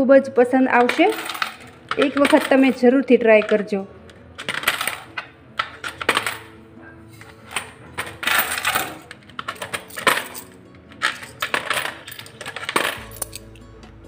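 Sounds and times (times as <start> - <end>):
coins clinking in plastic bottle: 0.7 - 13.8.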